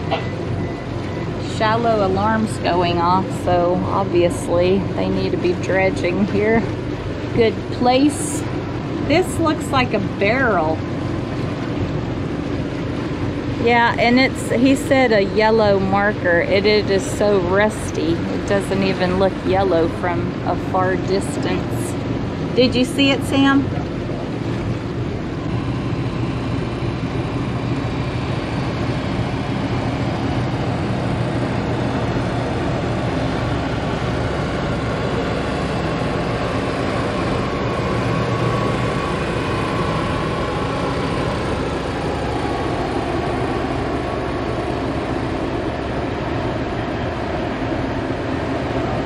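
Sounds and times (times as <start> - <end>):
boat engine drone: 0.0 - 49.0
water rushing along hull: 0.0 - 49.0.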